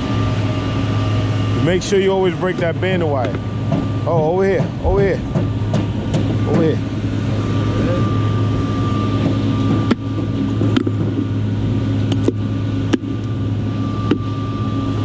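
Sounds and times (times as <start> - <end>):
site machinery droning: 0.0 - 15.0.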